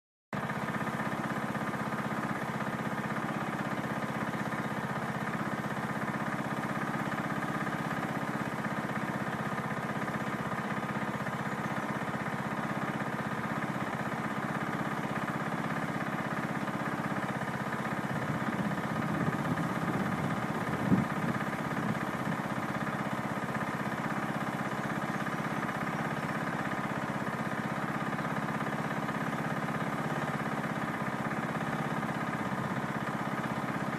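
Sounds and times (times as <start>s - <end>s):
engine drone: 0.4s - 33.9s.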